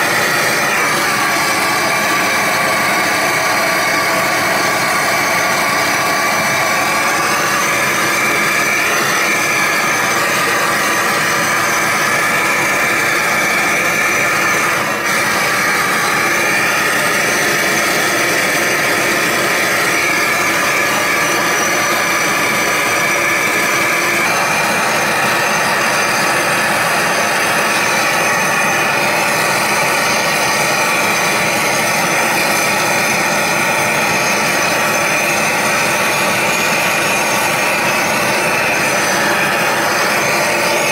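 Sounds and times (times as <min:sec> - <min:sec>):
gas blowtorch burning: 0:00.0 - 0:40.9.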